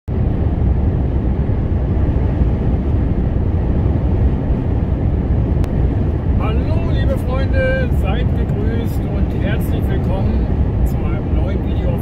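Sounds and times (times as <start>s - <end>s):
lorry engine rumble: 0.1s - 12.0s.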